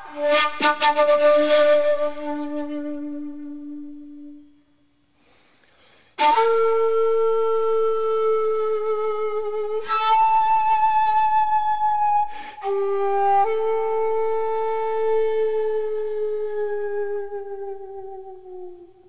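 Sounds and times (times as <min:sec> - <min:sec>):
bamboo flute long held notes: 0:00.0 - 0:04.7, 0:06.2 - 0:19.0.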